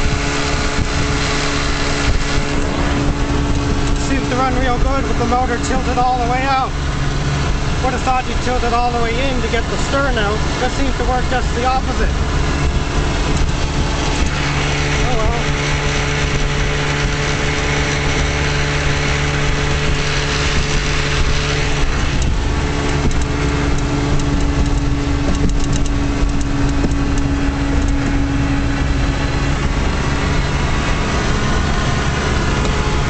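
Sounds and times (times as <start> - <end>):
two-stroke outboard running: 0.0 - 33.0.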